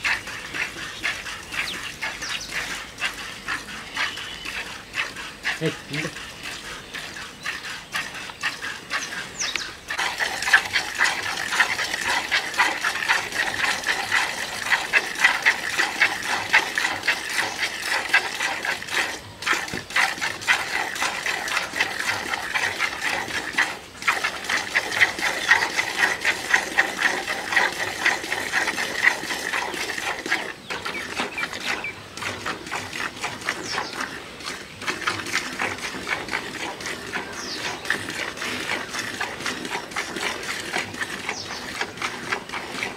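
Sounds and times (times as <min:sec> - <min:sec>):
milk squirting into a bucket: 0:00.0 - 0:42.9.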